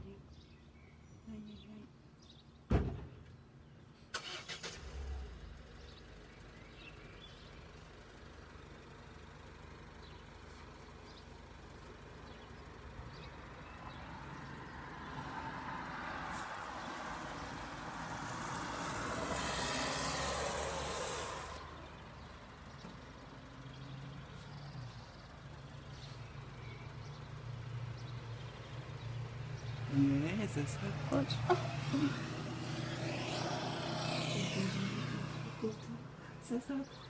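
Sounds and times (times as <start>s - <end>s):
car going by: 4.2s - 37.0s.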